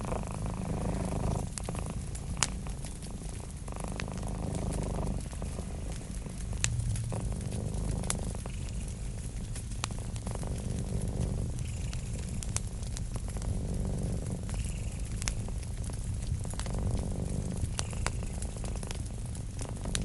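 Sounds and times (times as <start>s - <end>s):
cat purring: 0.0s - 20.0s
crackling wood fire with pops: 0.0s - 20.0s.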